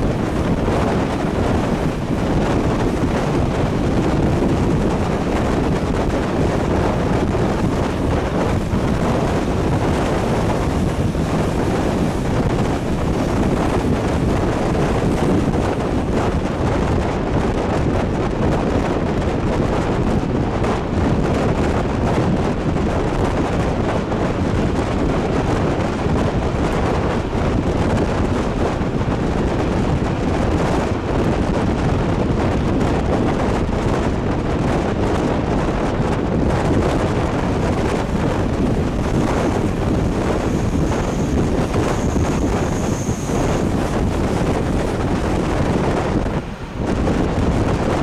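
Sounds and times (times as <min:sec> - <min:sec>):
train running at speed: 0:00.0 - 0:48.0
wind buffeting microphone: 0:00.0 - 0:48.0.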